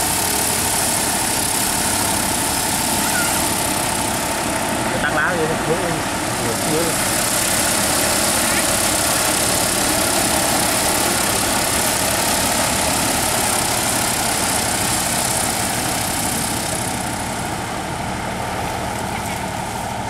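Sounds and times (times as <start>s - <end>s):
drone rotors running: 0.0s - 20.0s.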